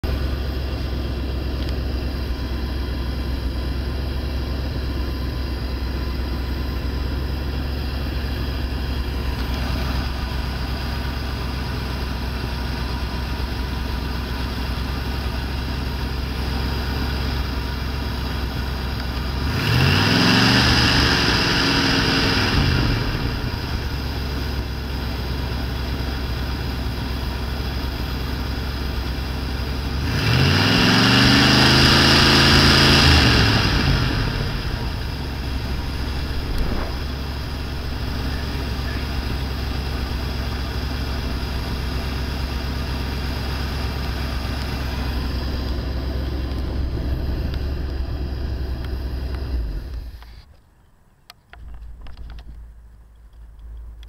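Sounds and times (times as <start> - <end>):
car engine idling and revving: 0.0 - 50.6.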